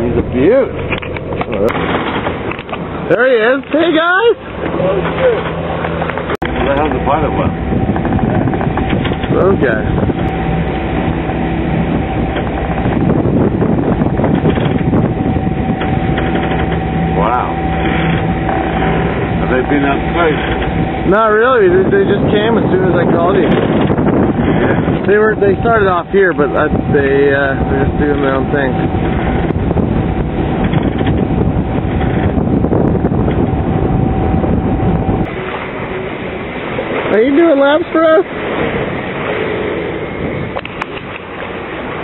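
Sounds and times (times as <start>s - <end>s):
constant hum: 0.0s - 42.0s
wind and water rushing: 0.0s - 42.0s
faint steady whine: 4.3s - 38.3s.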